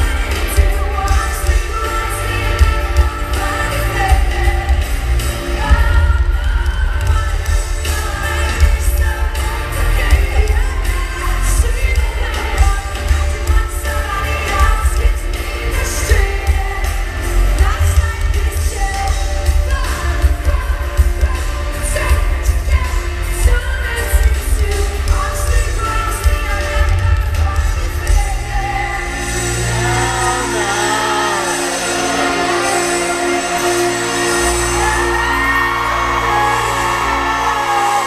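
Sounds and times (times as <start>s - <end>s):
live pop-rock band: 0.0s - 38.0s
woman singing lead: 0.0s - 38.0s.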